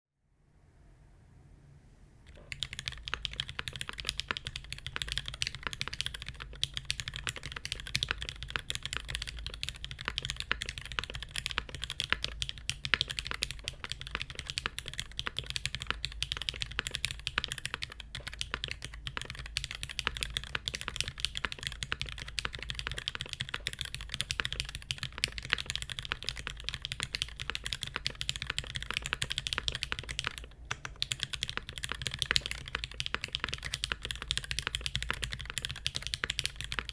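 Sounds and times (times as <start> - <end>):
fast typing on mechanical keyboard: 2.3 - 36.9.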